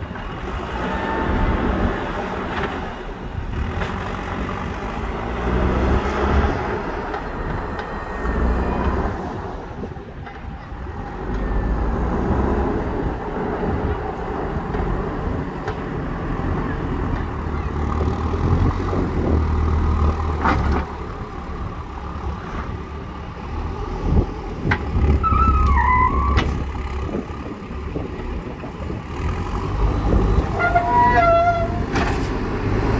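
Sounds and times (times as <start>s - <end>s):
diesel engine revving: 0.1s - 9.9s, 10.8s - 32.9s.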